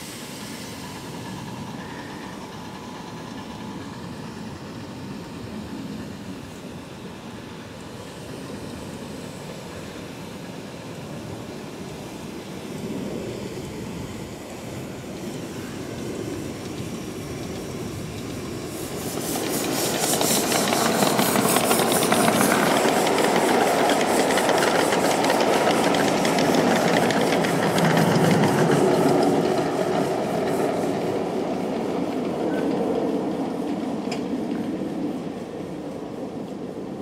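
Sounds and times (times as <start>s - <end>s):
steam locomotive running: 0.0s - 37.0s.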